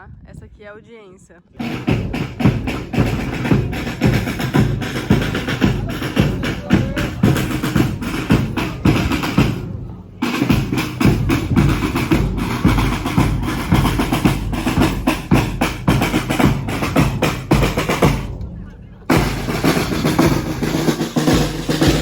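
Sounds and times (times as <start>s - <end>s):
snare drum: 1.6s - 18.4s, 19.1s - 22.0s
bass drum: 1.6s - 22.0s.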